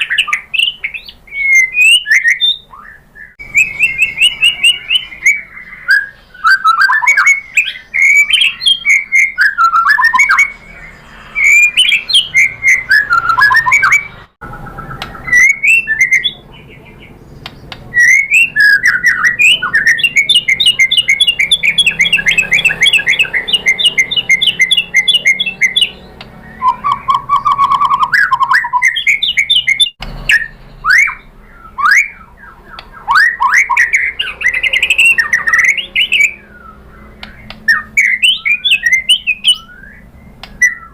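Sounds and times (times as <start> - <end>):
bird singing whistled song: 0.0 - 40.9.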